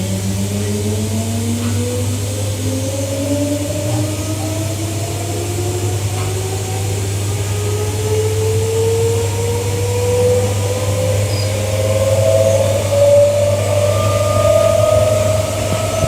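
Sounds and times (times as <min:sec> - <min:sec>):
train traction motors whining: 0:00.0 - 0:16.0.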